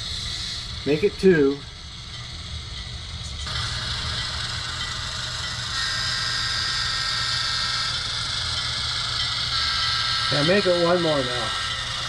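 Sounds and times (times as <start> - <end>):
model locomotive engine sound: 0.0 - 12.0
steady high whine: 0.0 - 12.0.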